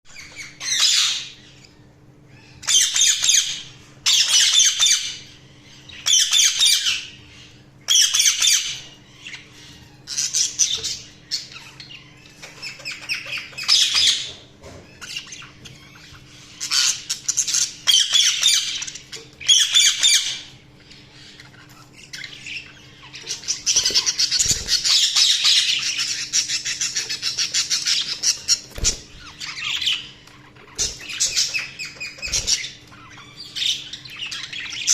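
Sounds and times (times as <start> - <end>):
budgerigars chirping and squawking: 0.1 - 34.9.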